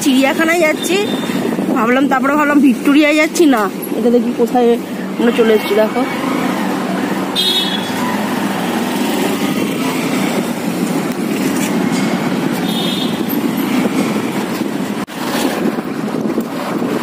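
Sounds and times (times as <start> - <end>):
motorbike engine: 0.0 - 17.0
wind noise: 0.0 - 17.0.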